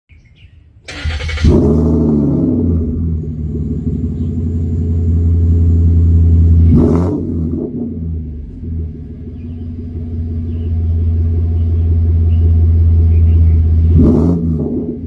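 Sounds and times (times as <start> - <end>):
car engine idling and revving: 0.9 - 15.0.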